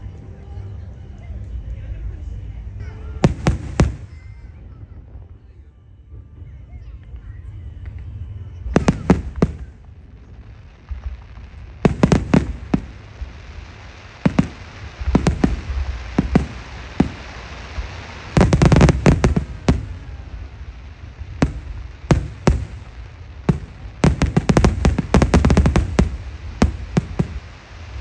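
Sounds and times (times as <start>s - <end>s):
low rumble: 0.0s - 28.0s
fireworks bangs: 2.9s - 5.3s, 7.8s - 28.0s.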